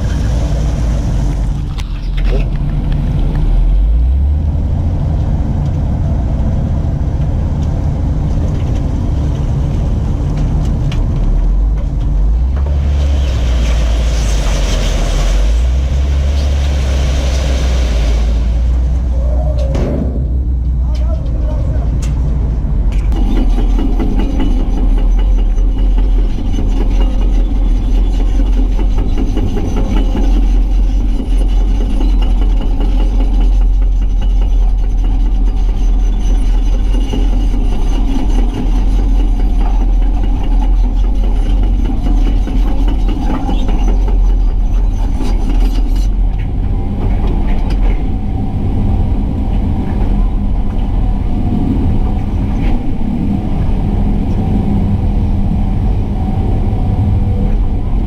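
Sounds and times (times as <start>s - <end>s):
excavator diesel engine rumbling: 0.0s - 58.0s.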